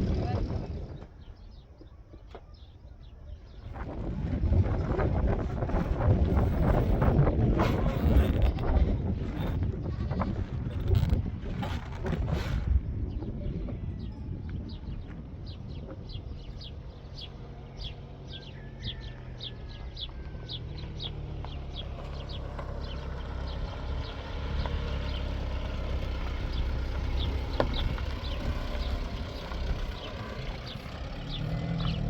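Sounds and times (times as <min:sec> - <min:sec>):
low rumble: 0:03.6 - 0:32.0.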